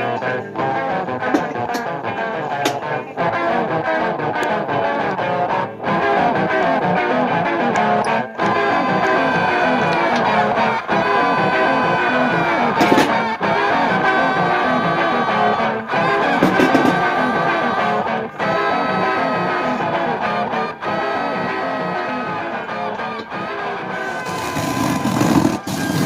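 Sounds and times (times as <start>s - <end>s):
guitar background music: 0.0s - 26.0s.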